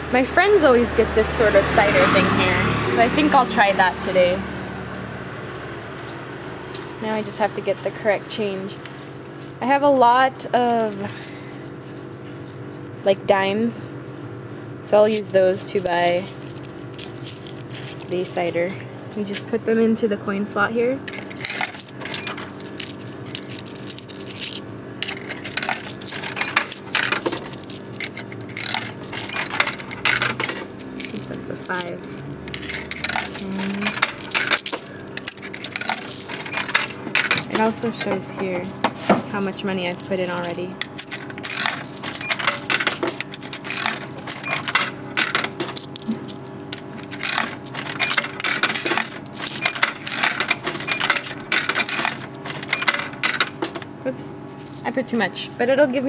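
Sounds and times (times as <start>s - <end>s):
steady low hum: 0.0s - 56.0s
coins clinking in a hand: 3.1s - 7.7s, 10.8s - 13.6s, 14.4s - 19.4s, 21.0s - 53.8s, 54.5s - 55.3s
coins dropping into vending machine: 3.1s - 7.8s, 10.6s - 13.7s, 14.4s - 19.5s, 20.5s - 53.9s, 54.5s - 55.3s.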